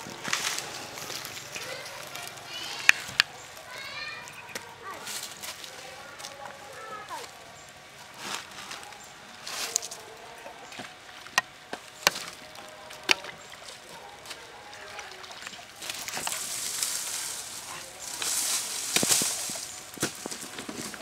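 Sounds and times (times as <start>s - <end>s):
leaves rustling: 0.0s - 21.0s.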